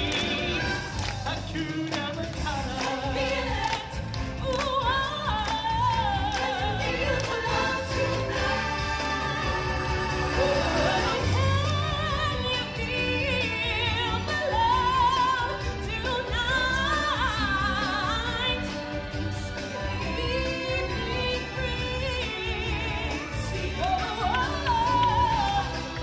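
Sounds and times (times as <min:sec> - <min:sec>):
band backing with bass: 0:00.0 - 0:26.0.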